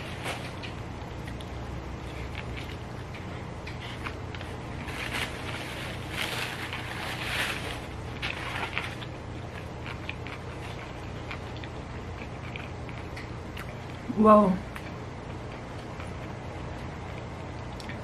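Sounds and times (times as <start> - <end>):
crunching and wet chewing: 0.0 - 14.1, 14.7 - 18.0
steady low hum: 0.0 - 18.0.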